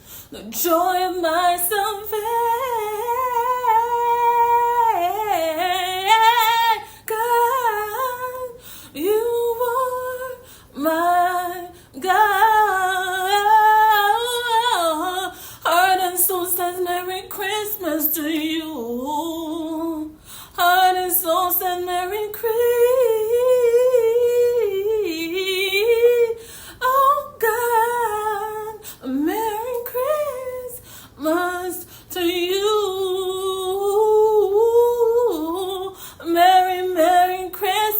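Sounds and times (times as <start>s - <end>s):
woman singing unaccompanied: 0.0s - 37.9s.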